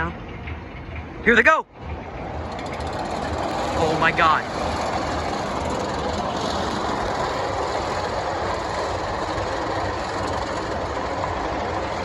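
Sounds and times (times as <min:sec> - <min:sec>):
roller coaster train rumbling on track: 0:00.0 - 0:12.0.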